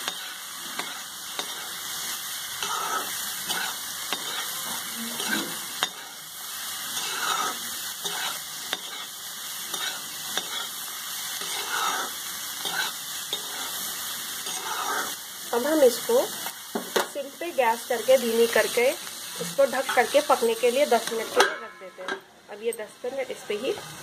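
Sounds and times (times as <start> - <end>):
spatula scraping pan: 0.0 - 6.2, 6.8 - 16.0, 18.2 - 22.3
beans sizzling in hot oil: 0.0 - 24.0.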